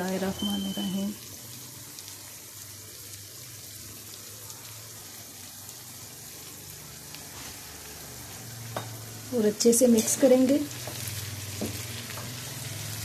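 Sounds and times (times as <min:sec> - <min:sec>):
vegetables frying in oil: 0:00.0 - 0:13.0.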